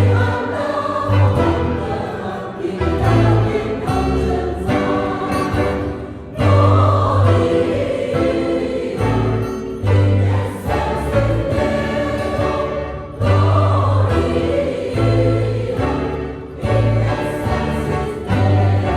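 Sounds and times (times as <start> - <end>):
choir singing sacred song: 0.0 - 18.9.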